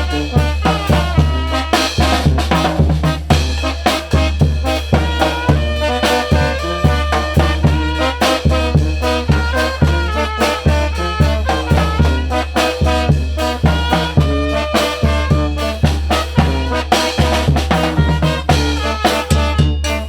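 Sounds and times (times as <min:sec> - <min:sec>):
heavy bass line: 0:00.0 - 0:20.0
steady drum beat: 0:00.0 - 0:20.0
trumpets and trombones melody: 0:00.0 - 0:20.0.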